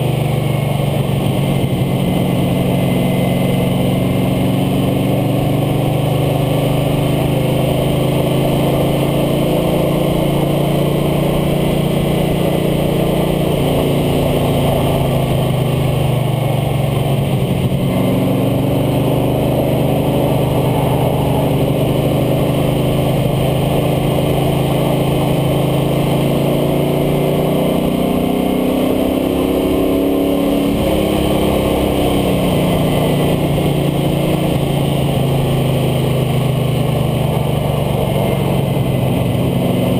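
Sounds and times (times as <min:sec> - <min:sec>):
truck engine running hard: 0:00.0 - 0:39.9.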